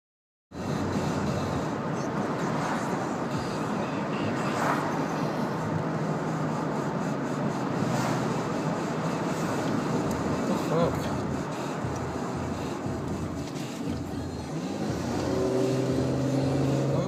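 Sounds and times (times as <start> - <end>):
low engine hum: 0.6 - 17.0.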